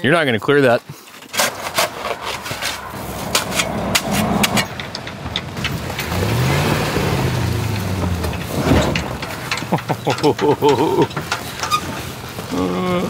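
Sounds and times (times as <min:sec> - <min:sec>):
truck engine revving: 0:01.4 - 0:13.0.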